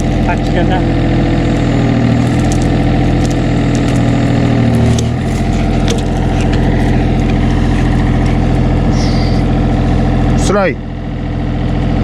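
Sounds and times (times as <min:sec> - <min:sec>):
construction machine engine running: 0:00.0 - 0:12.0.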